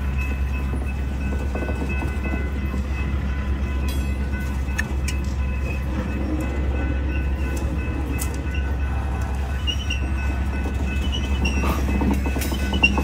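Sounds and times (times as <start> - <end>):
freight cars rumbling on rails: 0.0 - 13.0.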